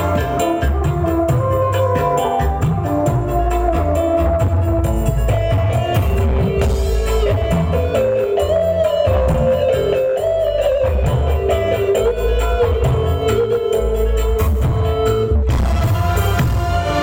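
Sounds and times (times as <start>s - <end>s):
loud music with heavy bass: 0.0s - 17.0s.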